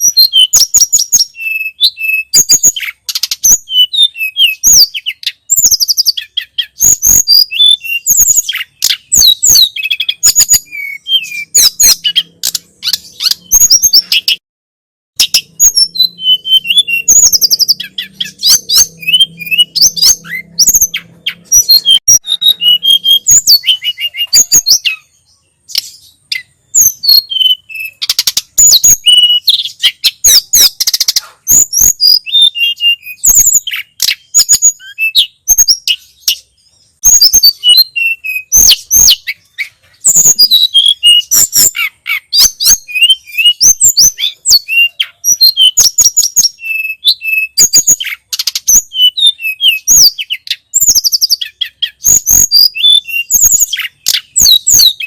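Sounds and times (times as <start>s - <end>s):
bird singing chirps and trills: 0.0s - 14.4s, 15.2s - 55.0s.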